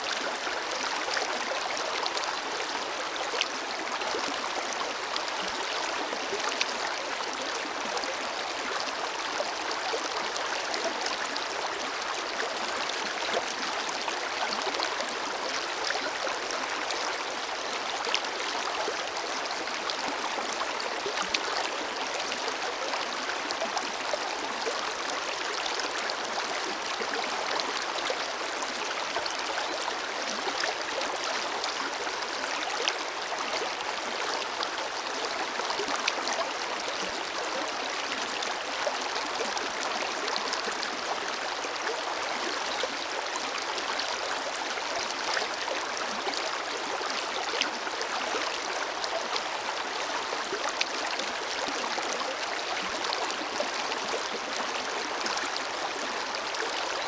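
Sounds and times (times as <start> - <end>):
river flowing over stones: 0.0 - 57.0.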